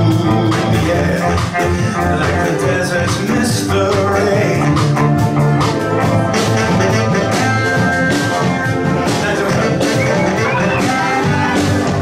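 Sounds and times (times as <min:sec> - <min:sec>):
drums keeping a steady beat: 0:00.0 - 0:12.0
electric bass line: 0:00.0 - 0:12.0.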